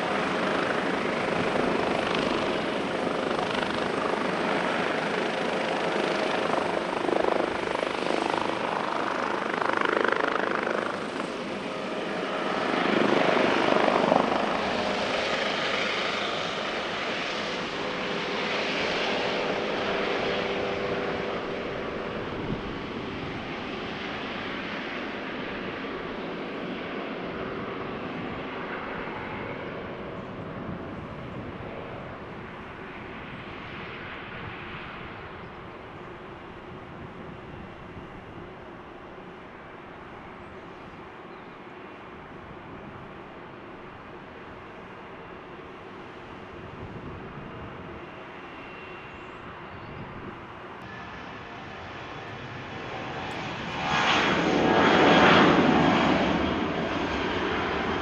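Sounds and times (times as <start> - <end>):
helicopter turbine and rotor noise: 0.0 - 58.0.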